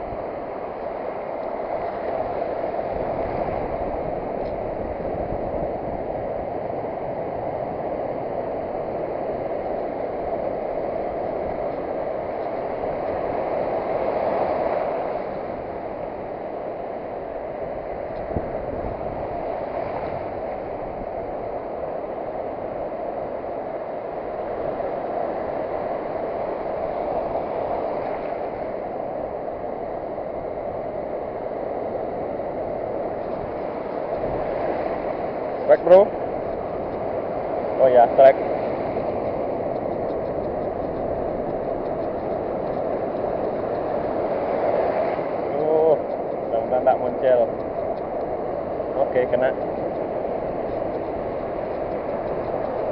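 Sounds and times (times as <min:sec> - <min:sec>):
surf washing on a beach: 0:00.0 - 0:52.9.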